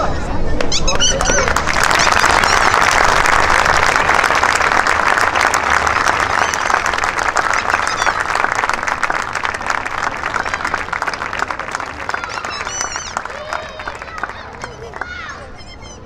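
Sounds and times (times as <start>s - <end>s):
crowd applauding: 0.9s - 15.6s.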